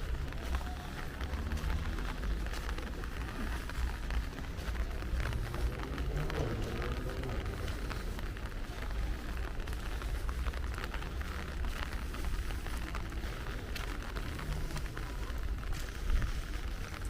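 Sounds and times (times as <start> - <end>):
low rumble of rain: 0.0 - 17.0
raindrops ticking: 0.0 - 17.0.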